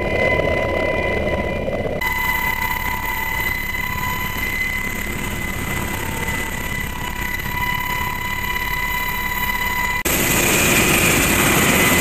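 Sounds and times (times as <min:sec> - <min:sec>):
helicopter engine and rotor rumble: 0:00.0 - 0:12.0
high-pitched whine: 0:00.0 - 0:12.0.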